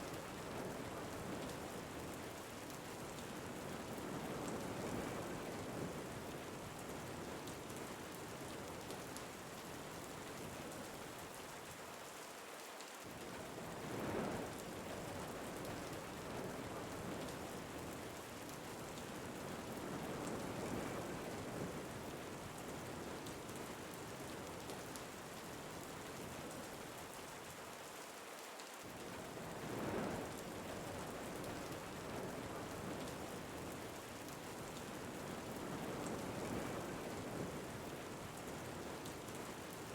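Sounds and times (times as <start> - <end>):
steady rain: 0.0 - 39.9
wind: 0.0 - 39.9.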